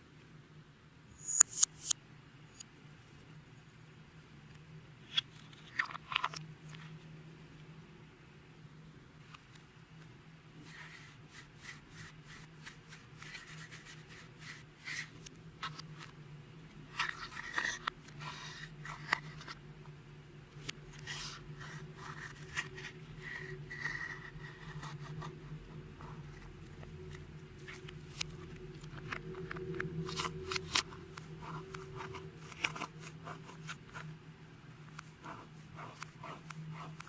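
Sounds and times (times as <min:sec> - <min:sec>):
steady low hum: 0:06.4 - 0:37.0.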